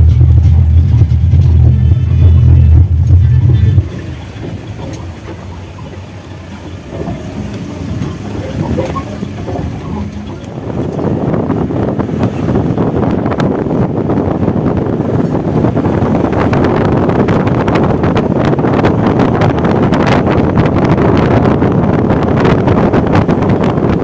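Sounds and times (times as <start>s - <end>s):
vehicle road noise: 0.0s - 24.0s
wind rushing over microphone: 0.0s - 24.0s.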